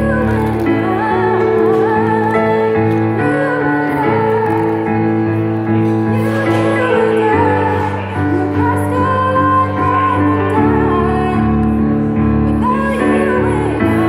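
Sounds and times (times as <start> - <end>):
held piano chords: 0.0 - 14.0
woman singing a slow ballad: 0.0 - 14.0.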